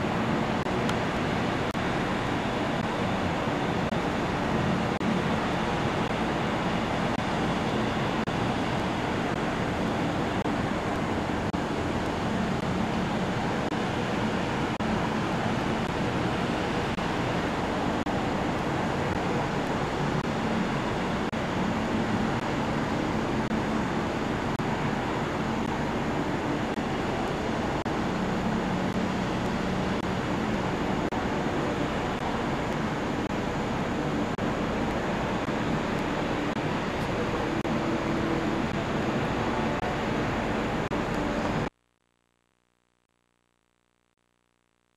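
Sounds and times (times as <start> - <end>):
distant city traffic hum: 0.0 - 41.7.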